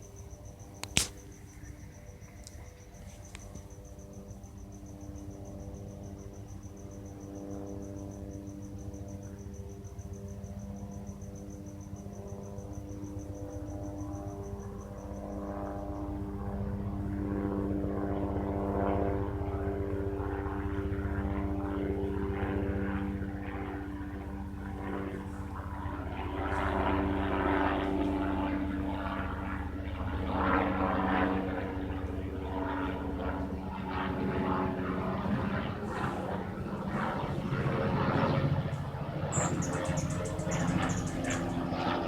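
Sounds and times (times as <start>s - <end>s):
cricket chirping: 0.0s - 42.0s
helicopter flying: 0.0s - 42.0s.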